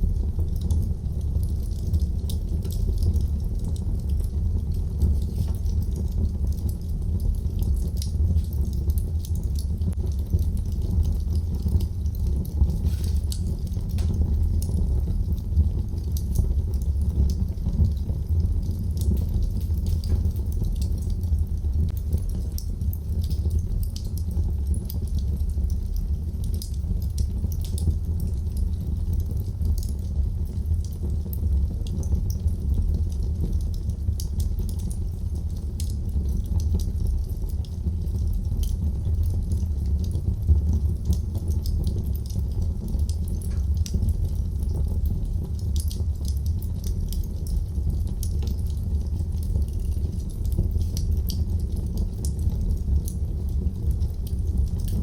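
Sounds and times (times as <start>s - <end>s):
fire crackling and popping: 0.0s - 55.0s
fire flame rumble: 0.0s - 55.0s.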